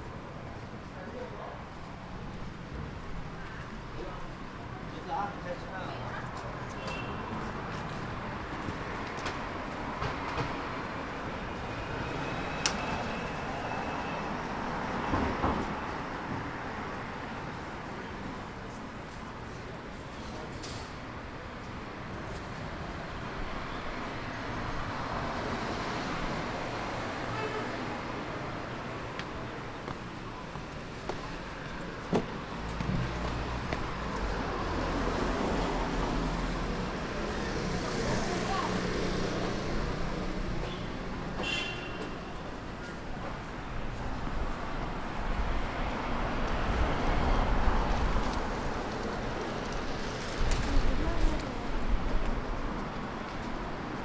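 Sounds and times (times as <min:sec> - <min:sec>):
background traffic noise: 0:00.0 - 0:54.0
city street noise: 0:00.0 - 0:54.0.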